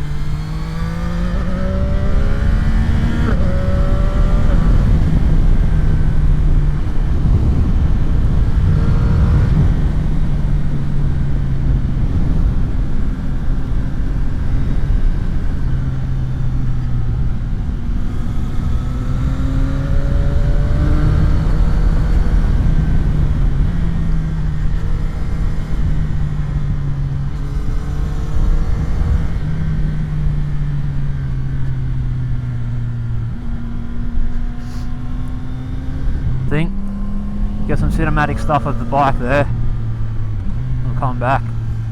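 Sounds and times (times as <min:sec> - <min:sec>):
motorcycle engine: 0:00.0 - 0:41.9
wind and road noise: 0:00.0 - 0:41.9.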